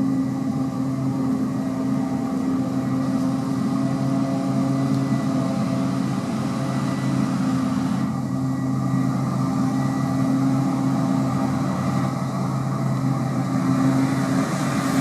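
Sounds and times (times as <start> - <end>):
faint high whine: 0.0 - 15.0
tractor diesel engine running: 0.0 - 15.0.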